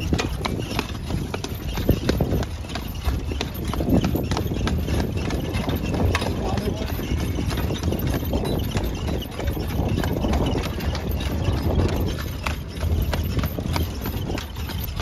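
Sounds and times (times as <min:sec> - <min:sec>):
horse hooves on asphalt: 0:00.0 - 0:15.0.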